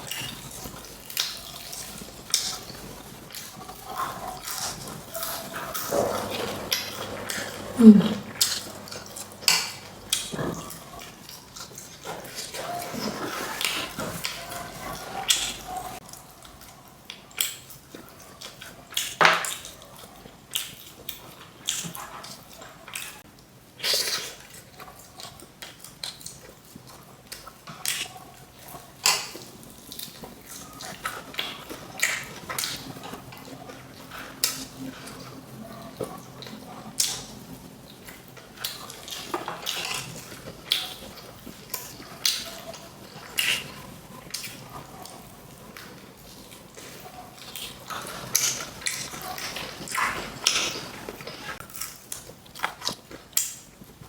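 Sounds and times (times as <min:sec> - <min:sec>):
chewing and wet mouth clicks: 0:08.2 - 0:54.0.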